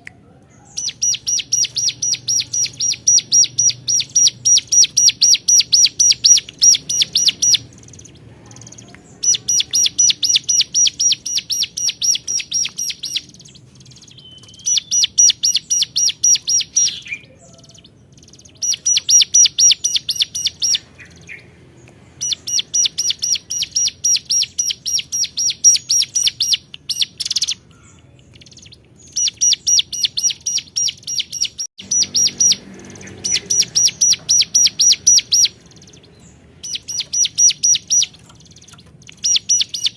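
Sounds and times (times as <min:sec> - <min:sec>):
bird singing rapid high chirps: 0:00.6 - 0:39.9.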